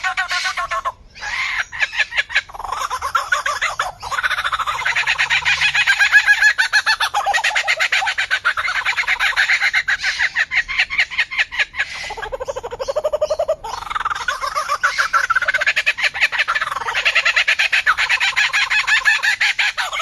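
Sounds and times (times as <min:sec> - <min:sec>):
bird chattering call: 0:00.0 - 0:20.0.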